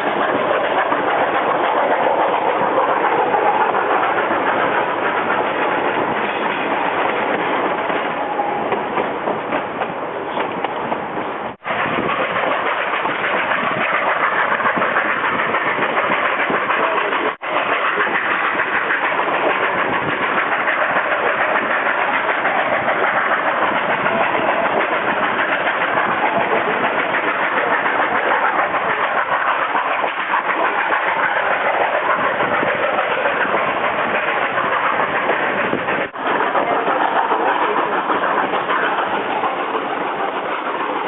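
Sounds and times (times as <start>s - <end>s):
steam train rumble and hiss: 0.0s - 41.0s.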